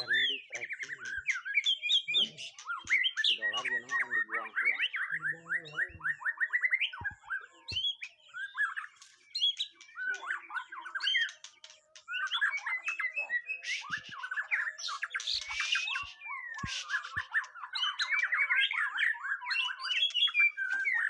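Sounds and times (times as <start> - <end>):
songbird singing trills and whistles: 0.0 - 21.0.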